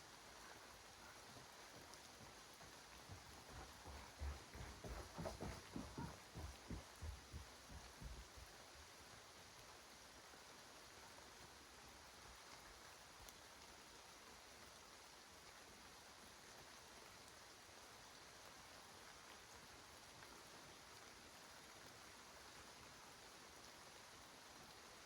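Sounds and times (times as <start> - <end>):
faint water drips: 0.0 - 5.0, 5.7 - 25.0
faint forest hiss: 0.0 - 25.0.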